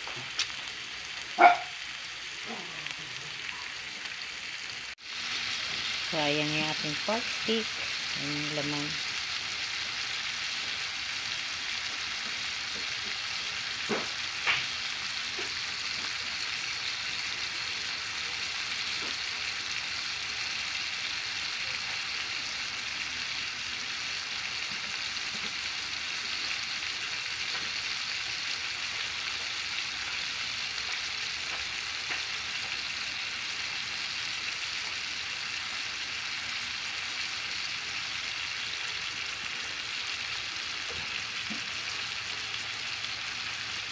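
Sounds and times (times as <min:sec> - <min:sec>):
pork frying in a pan: 0:00.0 - 0:43.9.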